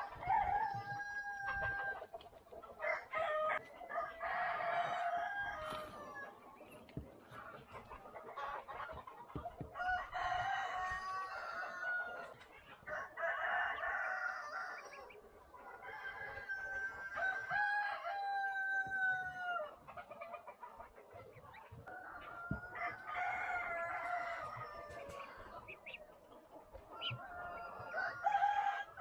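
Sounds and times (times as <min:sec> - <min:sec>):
roosters crowing: 0:00.0 - 0:07.0, 0:08.4 - 0:20.2, 0:21.7 - 0:26.0, 0:26.7 - 0:29.0.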